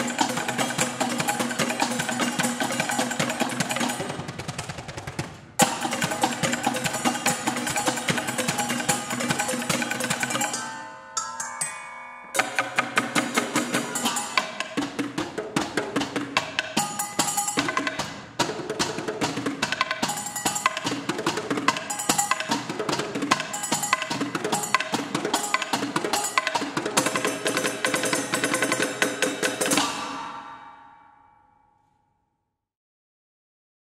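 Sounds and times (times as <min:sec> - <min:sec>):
drum hits: 0:00.0 - 0:10.6, 0:12.4 - 0:30.8
kitchenware percussion: 0:00.0 - 0:31.5.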